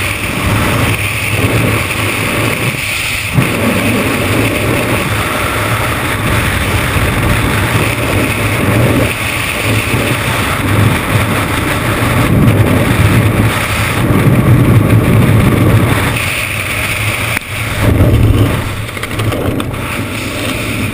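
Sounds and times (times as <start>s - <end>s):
wind buffeting a microphone: 0.0s - 20.9s.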